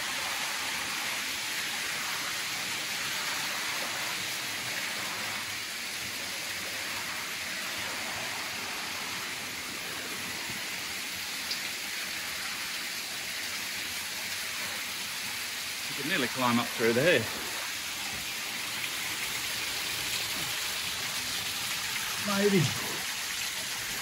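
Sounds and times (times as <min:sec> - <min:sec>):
creek water cascading over rocks: 0:00.0 - 0:24.0.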